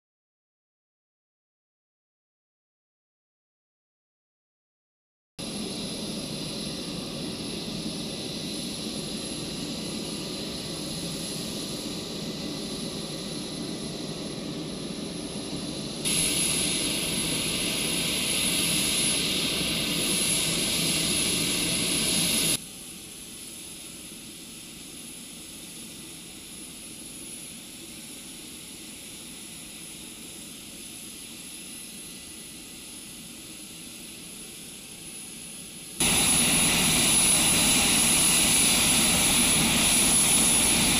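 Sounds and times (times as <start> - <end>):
high turbine whine: 5.4 - 40.9
turboprop engines running: 5.4 - 40.9.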